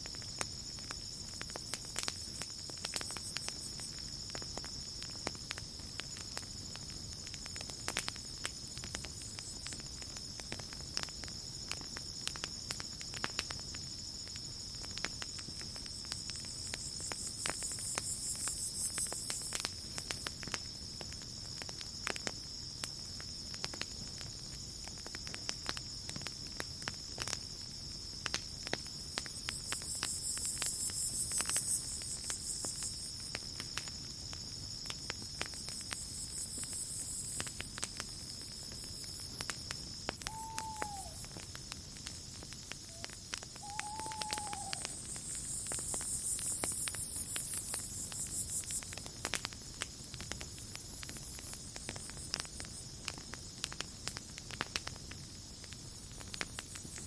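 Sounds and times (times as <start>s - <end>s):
campfire crackling and popping: 0.0s - 57.0s
night insects trilling: 0.0s - 57.0s.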